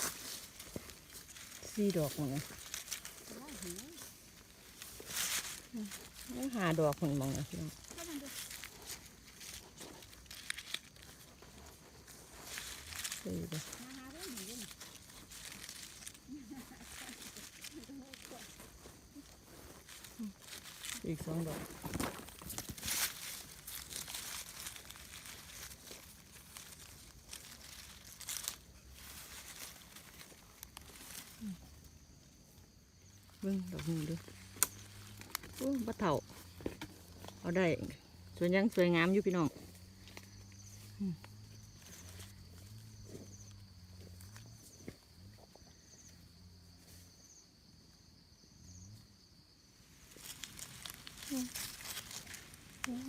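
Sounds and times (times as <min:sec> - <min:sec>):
dry leaves rustling and crackling: 0:00.0 - 0:45.4, 0:49.7 - 0:53.0
insect chirping trills: 0:00.0 - 0:53.0.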